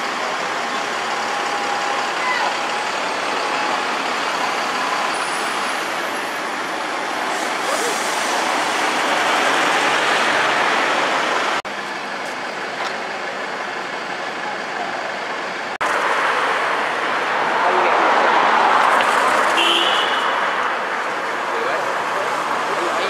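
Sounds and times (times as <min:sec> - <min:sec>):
street traffic noise: 0:00.0 - 0:23.0.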